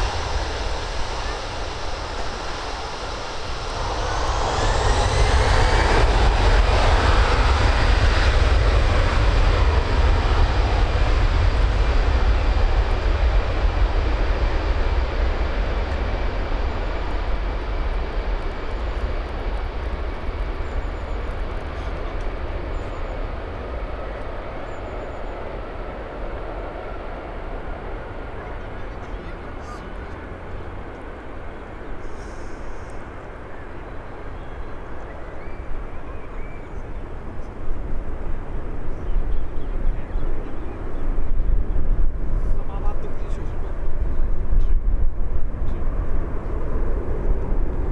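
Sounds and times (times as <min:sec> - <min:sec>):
jet engines rumble and whine: 0:00.0 - 0:47.9.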